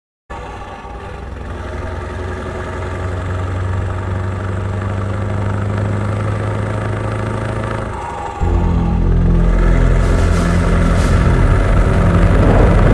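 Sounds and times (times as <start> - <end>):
vehicle engine running: 0.3 - 12.9.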